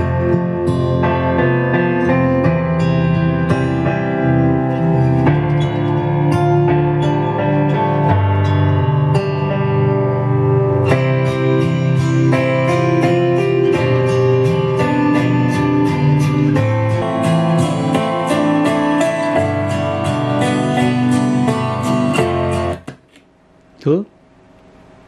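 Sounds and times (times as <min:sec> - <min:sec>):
acoustic guitar music through speaker: 0:00.0 - 0:23.2.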